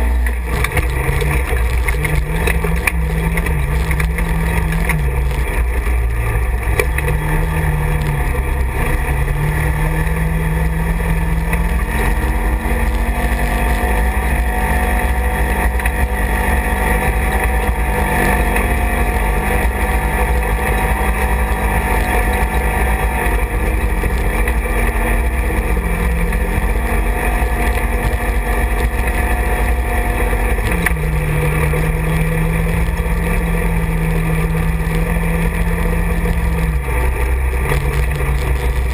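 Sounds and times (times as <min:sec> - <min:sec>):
road noise rumble: 0:00.0 - 0:38.9
utility vehicle engine running: 0:00.0 - 0:38.9.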